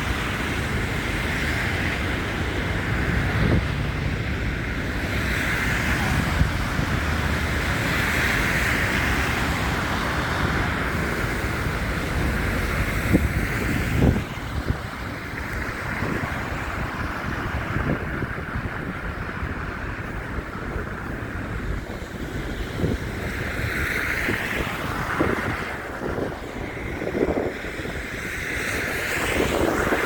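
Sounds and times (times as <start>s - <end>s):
city traffic noise: 0.0s - 30.0s
wind rumbling on microphone: 0.0s - 30.0s.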